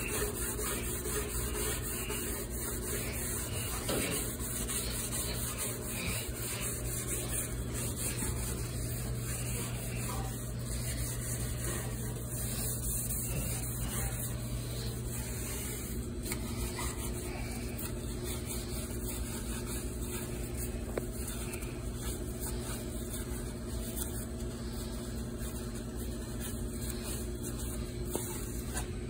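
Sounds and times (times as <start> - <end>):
kitchen equipment humming: 0.0 - 29.0
scrub pad rubbing stainless steel: 0.0 - 29.0.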